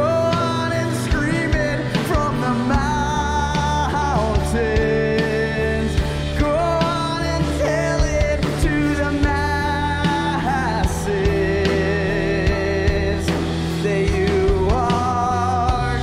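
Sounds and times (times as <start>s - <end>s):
drum kit beat: 0.0s - 16.0s
man singing: 0.0s - 16.0s.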